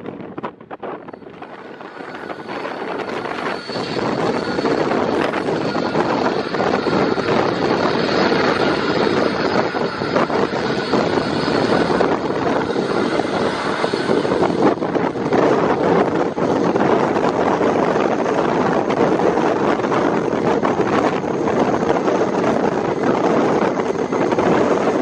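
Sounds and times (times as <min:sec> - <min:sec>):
jet engines at taxi power: 0:00.0 - 0:25.0.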